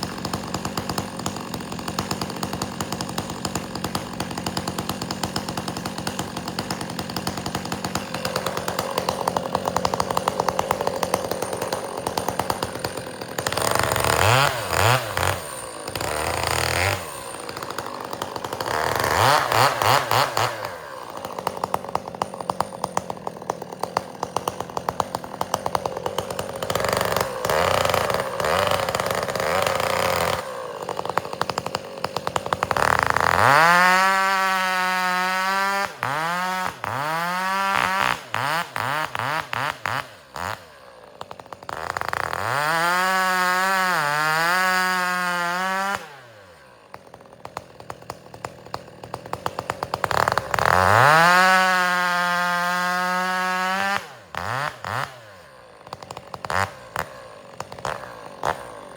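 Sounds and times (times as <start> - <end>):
chainsaw revving and cutting: 0.0 - 58.9.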